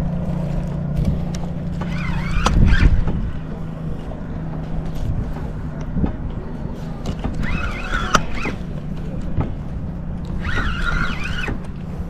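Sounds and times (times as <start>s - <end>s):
low motor hum: 0.0s - 12.0s
wind noise on microphone: 0.0s - 12.0s.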